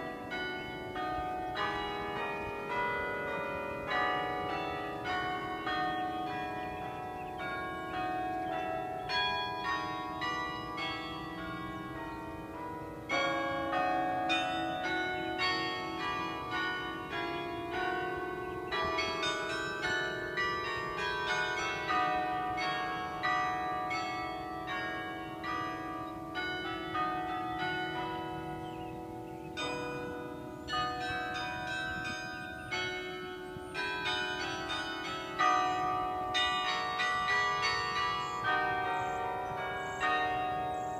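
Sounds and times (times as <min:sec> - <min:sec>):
carillon bells playing: 0:00.0 - 0:40.9.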